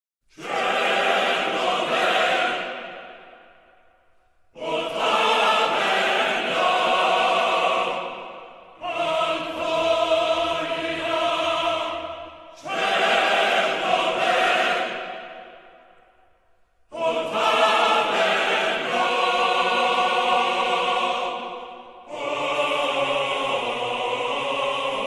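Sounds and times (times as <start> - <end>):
choir-like sustained chords: 0.4 - 25.0.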